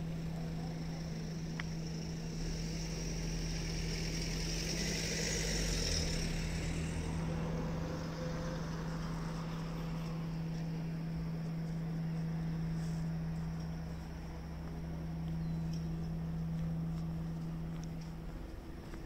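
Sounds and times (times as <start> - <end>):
steady low hum: 0.0 - 4.7, 6.3 - 19.0
motor engine running: 0.0 - 19.0.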